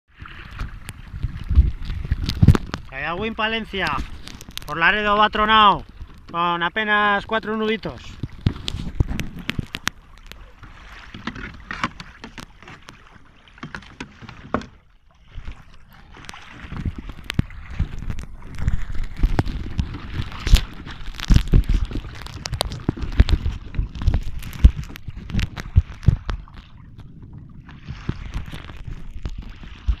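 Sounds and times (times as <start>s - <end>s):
water rushing along a hull: 0.1s - 30.0s.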